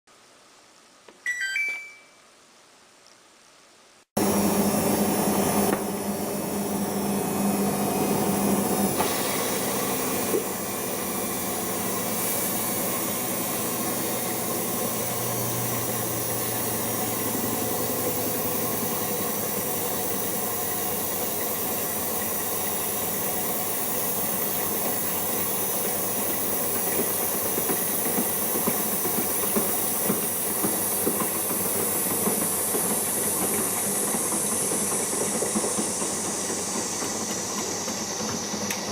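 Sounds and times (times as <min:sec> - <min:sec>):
water rushing into washing machine: 0:04.2 - 0:38.9.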